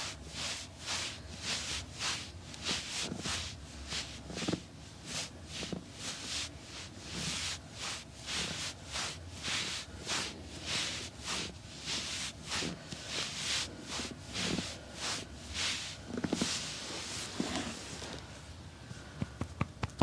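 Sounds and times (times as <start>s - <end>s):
massage rubbing strokes: 0.0s - 18.2s.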